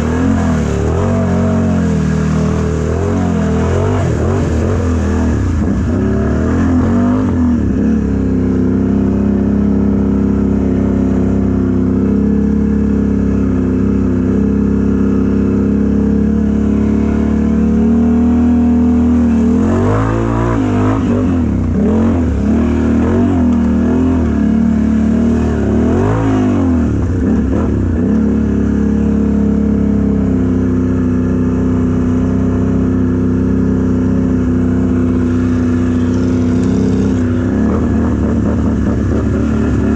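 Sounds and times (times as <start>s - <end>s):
truck engine revving: 0.0s - 29.2s, 34.1s - 39.9s.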